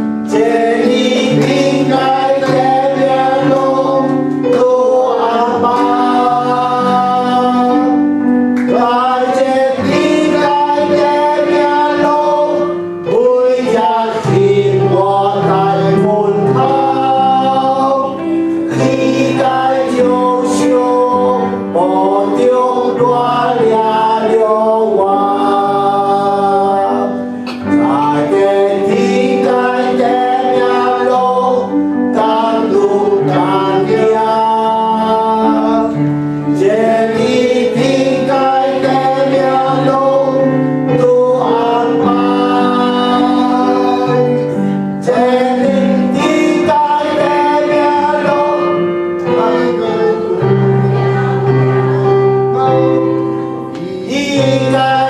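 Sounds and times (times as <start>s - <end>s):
instrumental accompaniment: 0.0s - 55.0s
person singing worship song: 0.0s - 55.0s.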